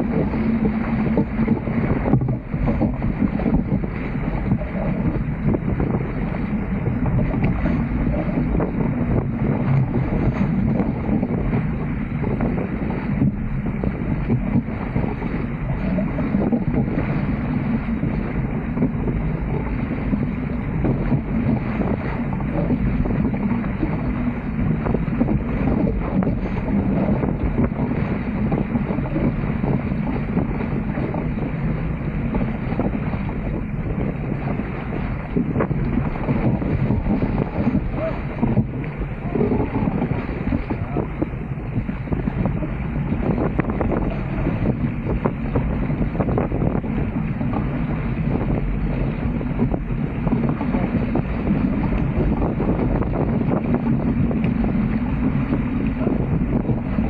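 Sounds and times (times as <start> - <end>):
low rumble: 0.0 - 57.0
water rushing along boat hulls: 0.0 - 57.0
wind buffeting microphone: 0.0 - 57.0.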